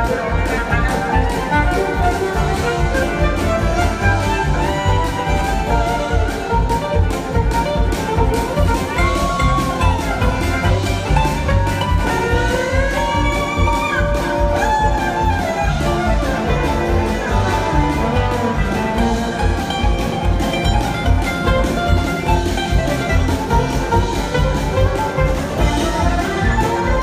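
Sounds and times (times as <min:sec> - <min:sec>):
sliding lead melody: 0:00.0 - 0:27.0
string band playing: 0:00.0 - 0:27.0
upright bass and drums beat: 0:00.0 - 0:27.0.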